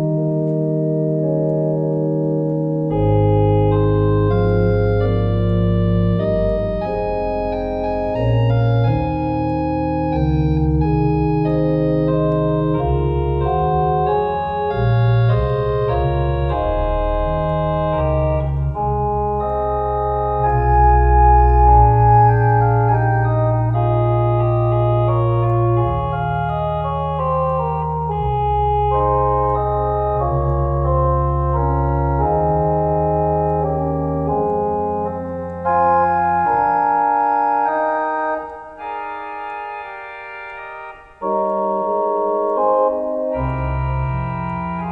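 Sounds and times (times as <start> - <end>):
deep organ pedal bass: 0.0 - 44.9
organ chords: 0.0 - 44.9.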